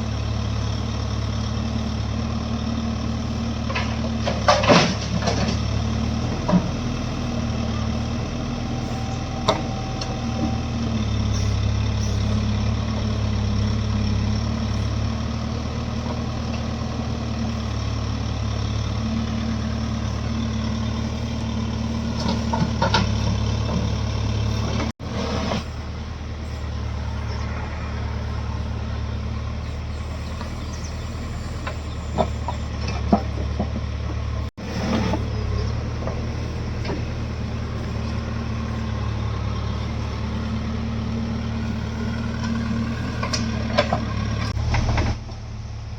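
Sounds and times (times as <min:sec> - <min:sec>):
diesel engines droning: 0:00.0 - 0:45.9
loader knocks: 0:03.4 - 0:26.0, 0:28.8 - 0:45.5.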